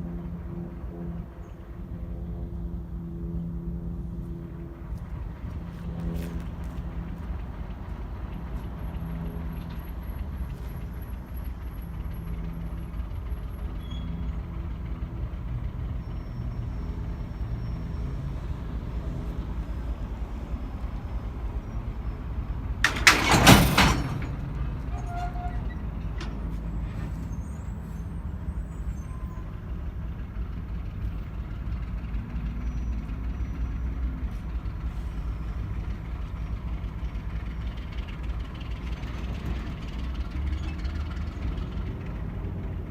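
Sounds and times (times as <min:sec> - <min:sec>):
diesel locomotive engine running: 0:00.0 - 0:42.9.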